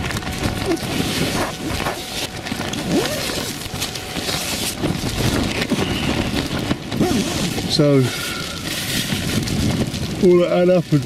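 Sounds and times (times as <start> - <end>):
fabric flapping in wind: 0.0 - 11.0
strong gusty wind: 0.0 - 11.0.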